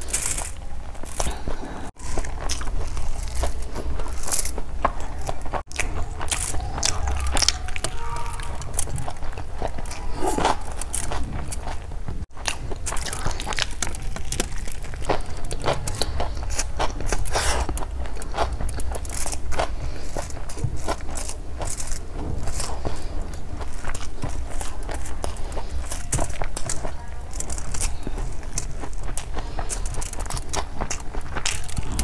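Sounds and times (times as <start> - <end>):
chewing rice: 0.0 - 32.0
fingers mashing rice on foil: 0.0 - 32.0.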